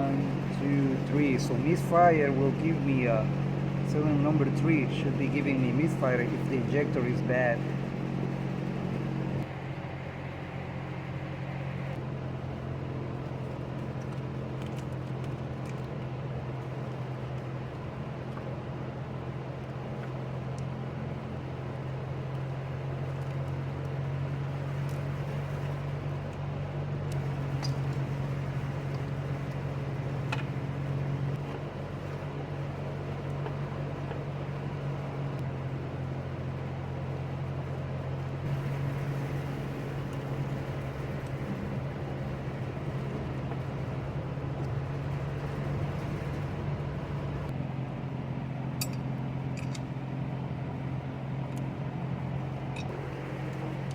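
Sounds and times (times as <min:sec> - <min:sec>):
engine idling with misfire: 0:00.0 - 0:53.9.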